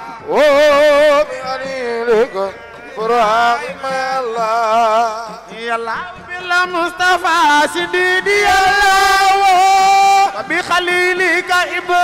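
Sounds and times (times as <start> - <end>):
man singing devotional chant: 0.0 - 12.0.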